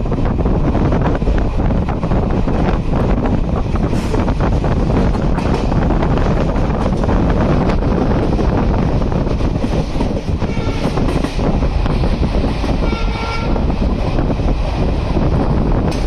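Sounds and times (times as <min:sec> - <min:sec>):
train rumbling along track: 0:00.0 - 0:16.0
wind rushing over microphone: 0:00.0 - 0:16.0.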